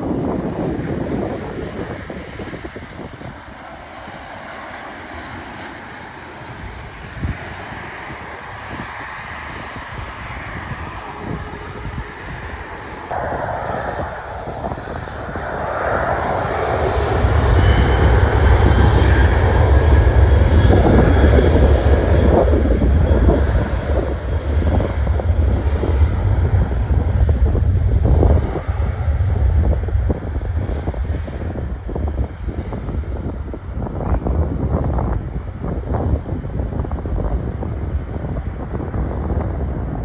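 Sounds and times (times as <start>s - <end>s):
airliner engines passing: 0.0s - 40.0s.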